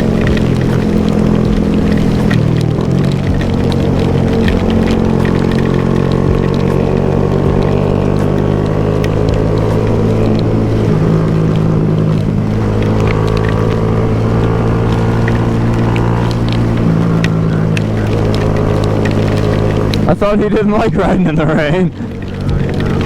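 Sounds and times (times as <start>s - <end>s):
motorcycle engine running: 0.0s - 23.0s
sharp ticks: 0.0s - 23.0s.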